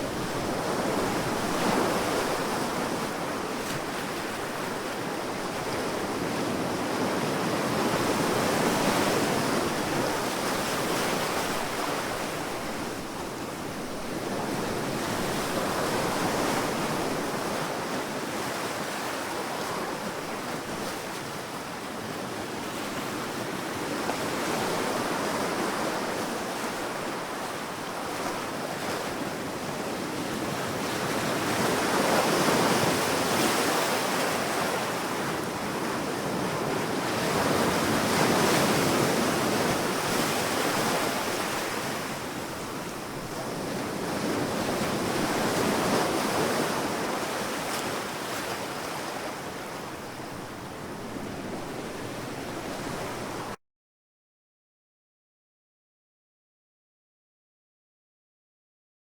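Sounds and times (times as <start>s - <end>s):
waves breaking on beach: 0.0s - 53.6s.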